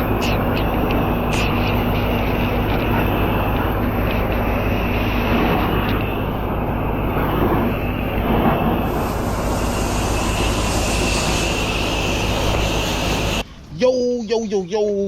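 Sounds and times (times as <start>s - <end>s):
water spraying hiss: 0.0s - 13.4s
pressure washer engine drone: 0.0s - 13.7s.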